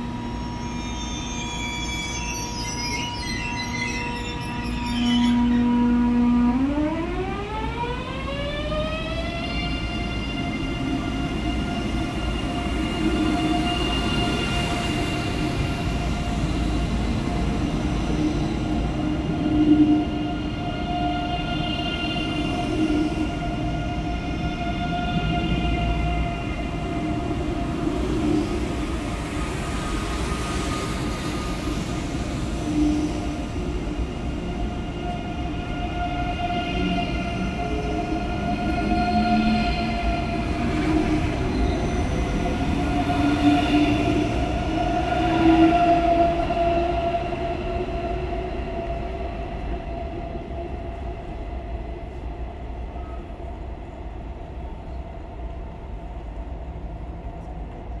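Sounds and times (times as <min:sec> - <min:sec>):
electric train whine: 0:00.0 - 0:58.0.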